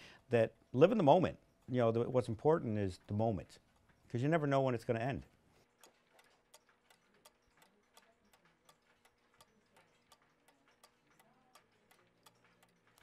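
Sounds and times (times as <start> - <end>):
mechanical clock ticking: 0.2 - 13.0.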